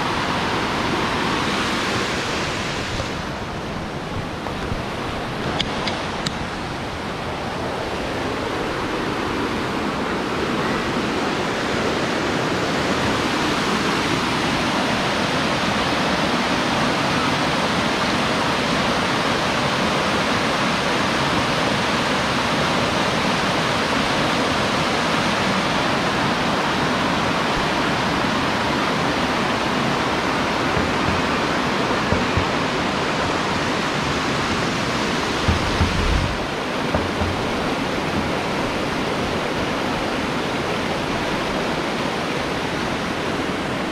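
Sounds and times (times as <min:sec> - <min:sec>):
stream rushing over cascades: 0:00.0 - 0:43.9.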